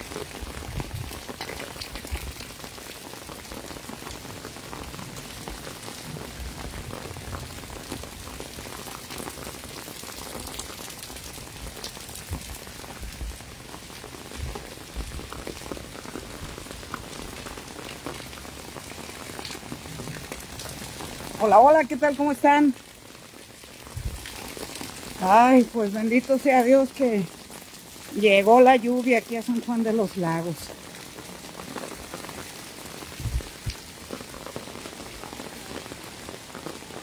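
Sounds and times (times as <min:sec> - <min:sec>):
rain on a paved street: 0:00.0 - 0:37.0
raindrop ticks: 0:00.0 - 0:37.0.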